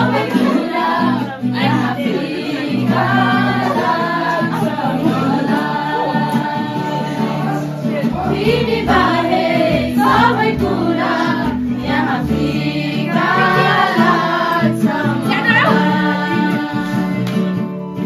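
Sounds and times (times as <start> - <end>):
acoustic guitar: 0.0 - 18.0
group of people singing: 0.0 - 18.0.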